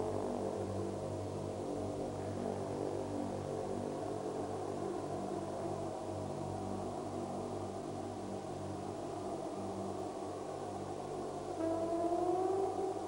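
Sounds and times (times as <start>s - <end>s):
ambient electronic drone: 0.0s - 13.0s.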